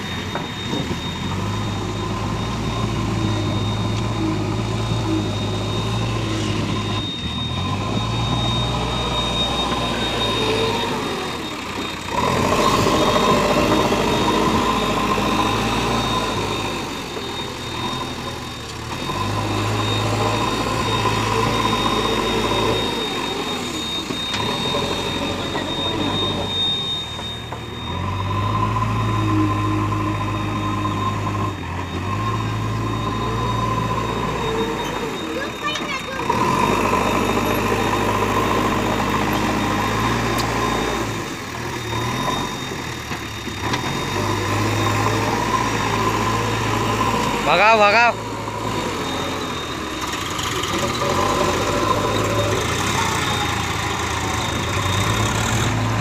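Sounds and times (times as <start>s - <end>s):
diesel engine running: 0.0s - 56.0s
hydraulic arms working: 0.0s - 56.0s.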